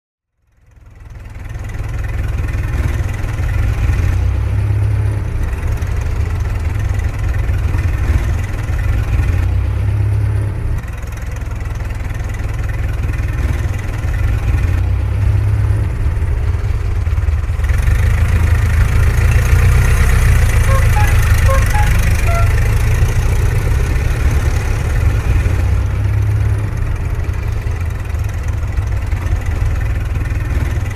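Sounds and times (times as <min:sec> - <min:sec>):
car engine idling: 0:00.8 - 0:30.9.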